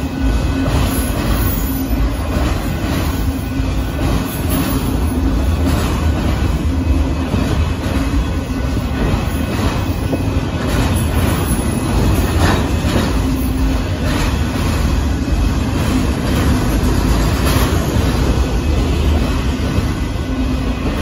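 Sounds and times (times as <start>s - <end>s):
clicks and clanks of train cars: 0.0s - 21.0s
train wheels rumbling on rail: 0.0s - 21.0s.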